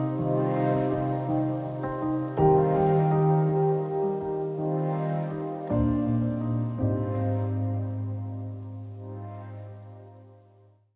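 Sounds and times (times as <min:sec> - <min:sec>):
music held chord: 0:00.0 - 0:10.9.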